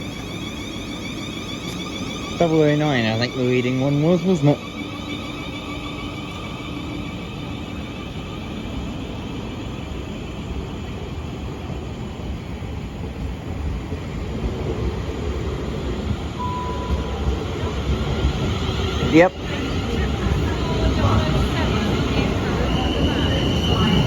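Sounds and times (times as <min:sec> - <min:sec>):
passenger train rumbling: 0:00.0 - 0:24.0.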